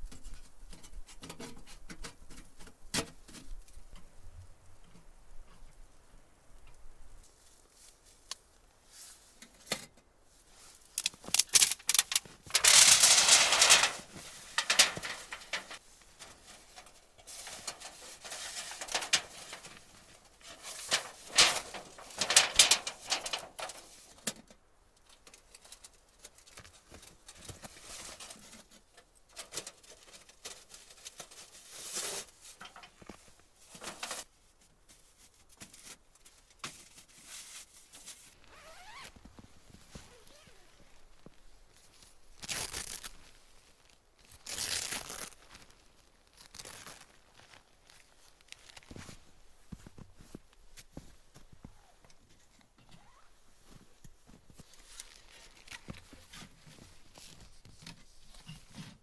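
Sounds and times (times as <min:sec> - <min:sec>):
rustling and crunching: 0:06.6 - 0:59.0.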